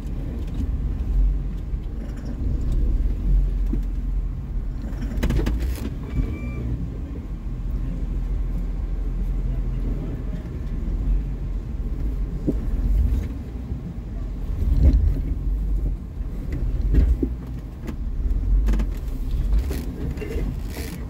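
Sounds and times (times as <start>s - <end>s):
car engine low rumble: 0.0s - 21.0s.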